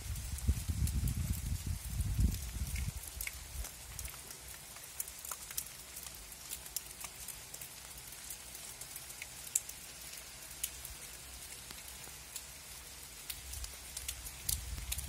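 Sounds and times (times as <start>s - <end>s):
rain hiss: 0.0s - 15.0s
raindrops ticking: 0.0s - 15.0s.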